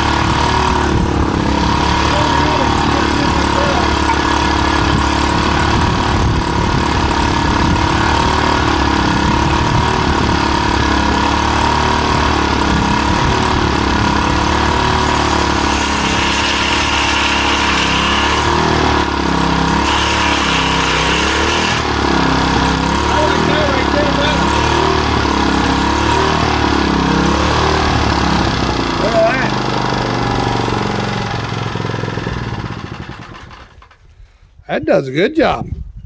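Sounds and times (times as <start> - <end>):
high machine whine: 0.0 - 33.8
small gasoline engine running: 0.0 - 34.1.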